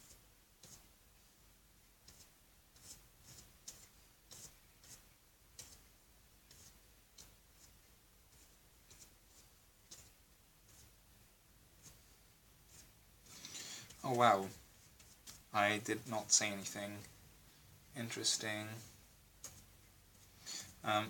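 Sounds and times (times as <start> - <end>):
faint paintbrush dabbing: 0.0 - 21.0.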